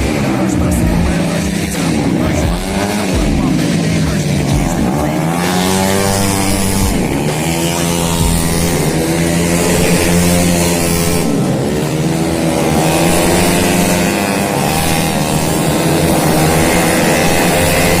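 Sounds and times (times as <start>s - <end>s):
scooter engines at full throttle: 0.0s - 18.0s.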